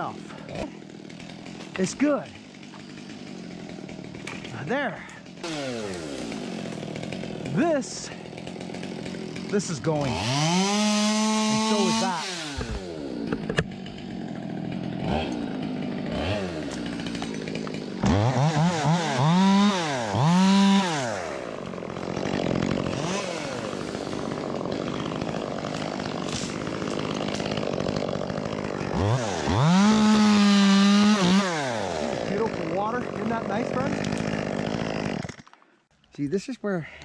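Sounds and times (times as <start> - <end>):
chainsaw idling and revving: 0.0 - 35.9.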